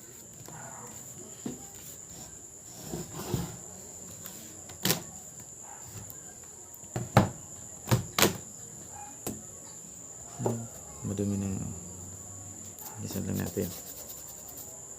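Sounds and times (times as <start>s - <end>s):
high insect drone: 0.0s - 14.9s.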